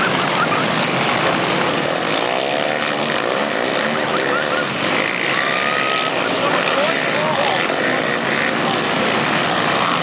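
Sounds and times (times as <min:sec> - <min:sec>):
quad bike engines buzzing: 0:00.0 - 0:10.0.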